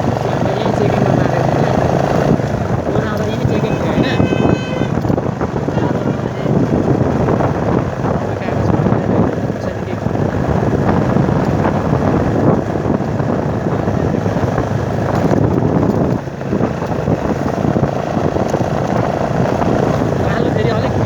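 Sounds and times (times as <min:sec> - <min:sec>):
motorcycle engine: 0:00.0 - 0:21.0
wind buffeting microphone: 0:00.0 - 0:21.0.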